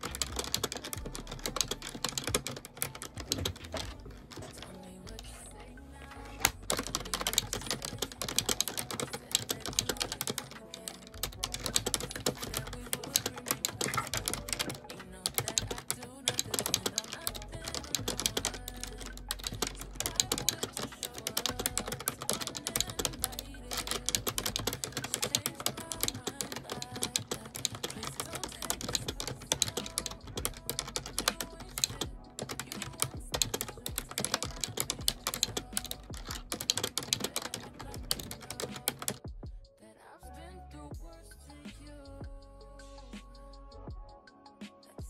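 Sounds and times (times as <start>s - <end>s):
fast typing on keyboard: 0.0s - 5.2s, 6.4s - 39.3s.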